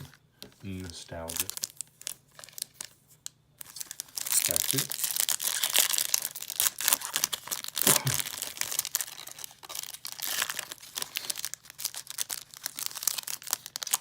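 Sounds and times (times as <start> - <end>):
foil wrapper crinkling and tearing: 0.0 - 14.0.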